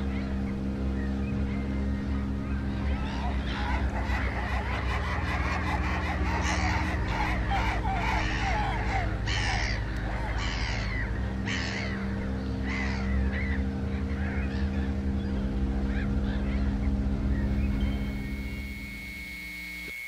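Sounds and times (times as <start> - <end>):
steady low drone: 0.0 - 19.9
harsh bird calls: 0.1 - 19.1.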